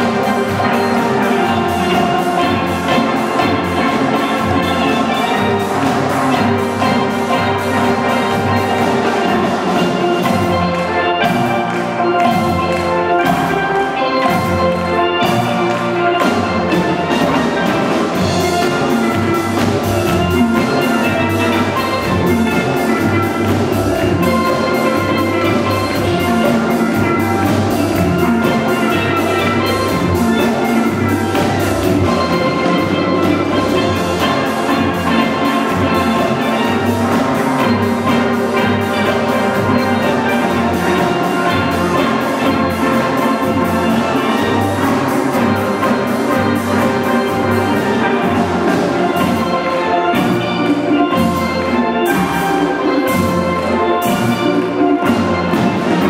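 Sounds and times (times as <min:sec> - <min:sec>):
drum kit beat: 0:00.0 - 0:56.0
steel pan ensemble playing: 0:00.0 - 0:56.0.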